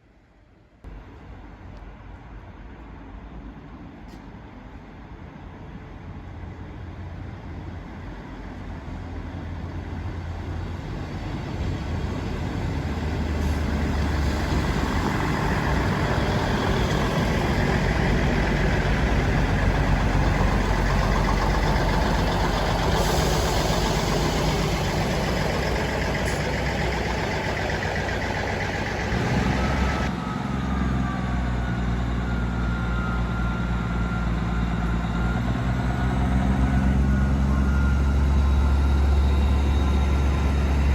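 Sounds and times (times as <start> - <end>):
diesel train engine passing: 0.9 - 40.9.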